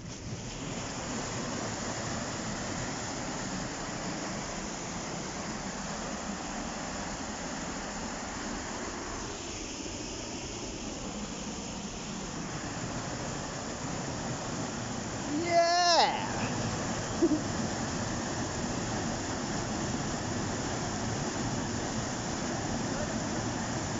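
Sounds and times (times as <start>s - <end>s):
water pouring over waterfall: 0.1s - 23.9s.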